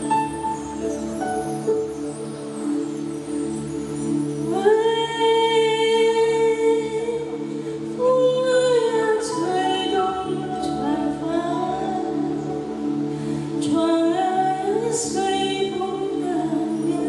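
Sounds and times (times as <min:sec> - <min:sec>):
held accompaniment chord: 0:00.0 - 0:17.0.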